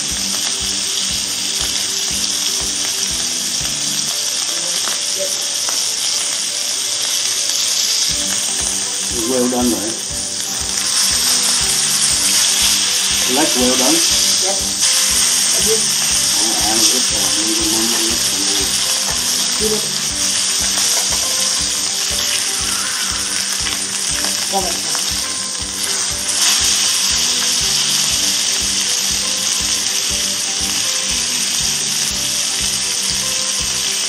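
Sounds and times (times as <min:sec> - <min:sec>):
meat sizzling in a frying pan: 0:00.0 - 0:34.0.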